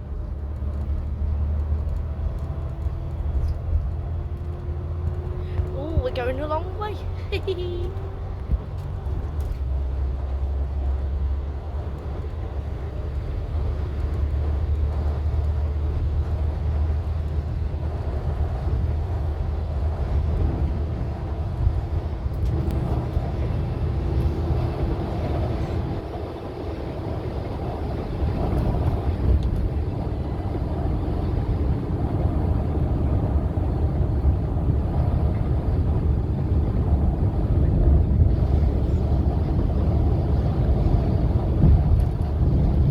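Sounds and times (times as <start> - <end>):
coach engine and road rumble: 0.0 - 42.9.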